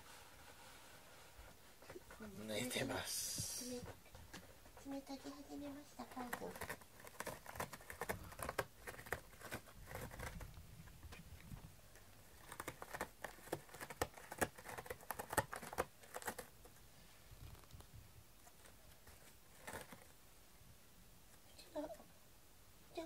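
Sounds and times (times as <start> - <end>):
cat scratching cardboard: 0.0 - 20.2.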